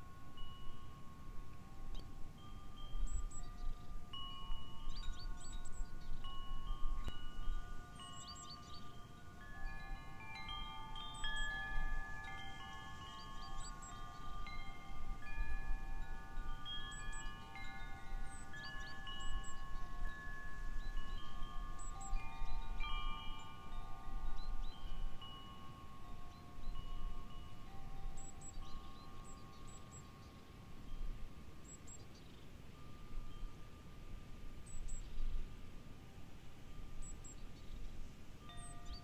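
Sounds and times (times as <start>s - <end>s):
wind chimes ringing: 0.0s - 39.0s.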